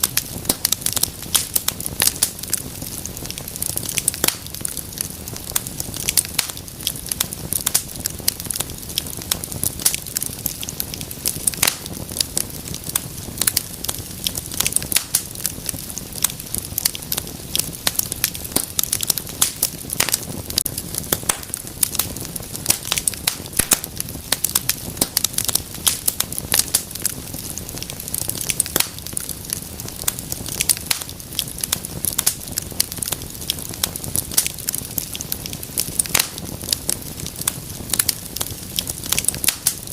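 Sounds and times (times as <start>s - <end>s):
rush of flame: 0.0s - 39.9s
wood fire crackling and popping: 0.0s - 39.9s.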